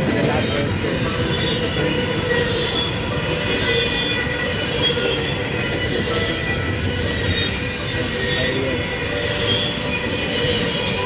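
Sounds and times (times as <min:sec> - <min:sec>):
freight train wheels rumbling: 0:00.0 - 0:11.0
high wheel squeals: 0:00.0 - 0:11.0.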